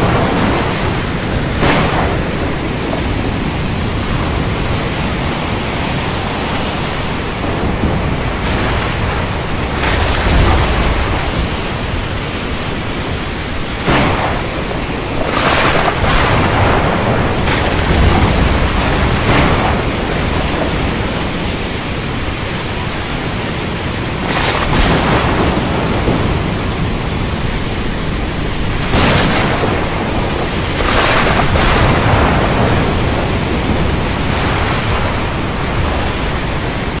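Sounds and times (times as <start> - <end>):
heavy rain: 0.0 - 37.0
thunder cracks: 0.0 - 37.0.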